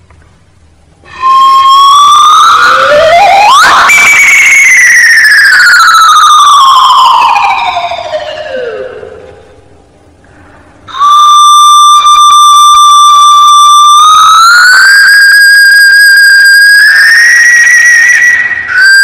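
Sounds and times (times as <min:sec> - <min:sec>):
whistle-like tone: 0:01.1 - 0:09.2, 0:10.9 - 0:19.0.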